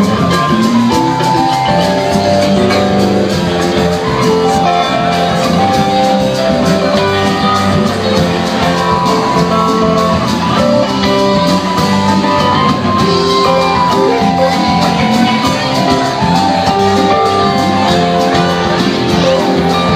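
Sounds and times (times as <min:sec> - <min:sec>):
guitar playing: 0:00.0 - 0:19.9
steady drum beat: 0:00.0 - 0:19.9.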